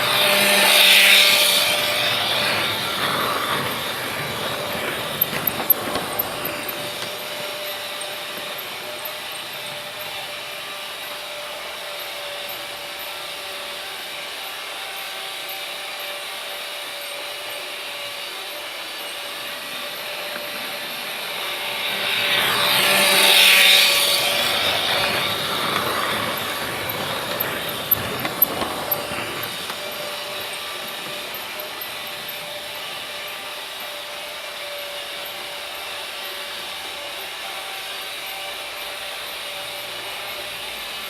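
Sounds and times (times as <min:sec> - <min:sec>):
freight train rail noise: 0:00.0 - 0:41.0
thin steady whine: 0:00.0 - 0:41.0.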